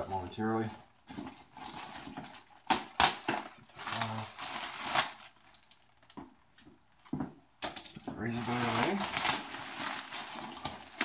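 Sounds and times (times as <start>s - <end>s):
plastic wrap crinkling: 0.0s - 6.4s, 8.0s - 11.0s.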